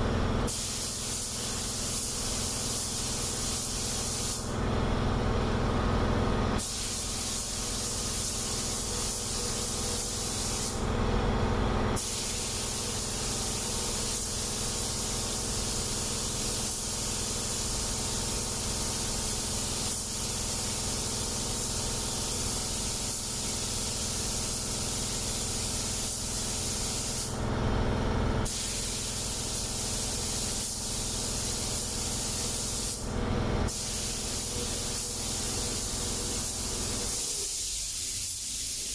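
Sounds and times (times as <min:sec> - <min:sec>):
paint spray gun hissing: 0:00.4 - 0:04.6, 0:06.6 - 0:10.9, 0:12.0 - 0:27.4, 0:28.4 - 0:38.9.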